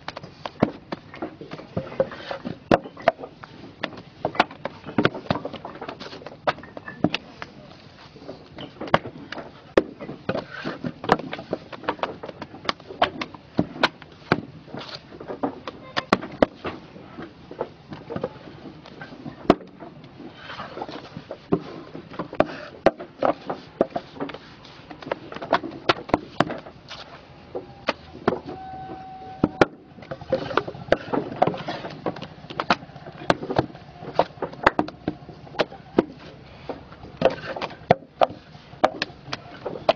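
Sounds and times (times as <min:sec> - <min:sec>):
paving blocks clacking together: 0:00.0 - 0:28.6, 0:29.4 - 0:39.9.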